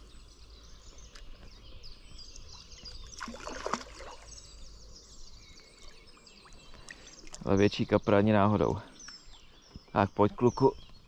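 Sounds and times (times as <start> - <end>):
birds singing and chirping: 0.0 - 11.0
quiet riverside ambience: 0.0 - 11.0.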